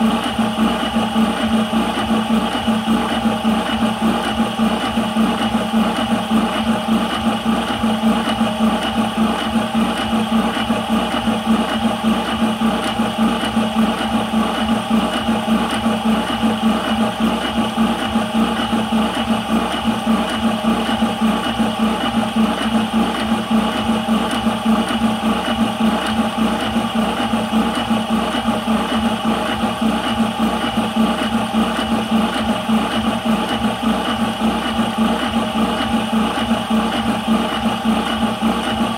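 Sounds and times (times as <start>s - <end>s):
air compressor pulsing hum: 0.0s - 38.9s.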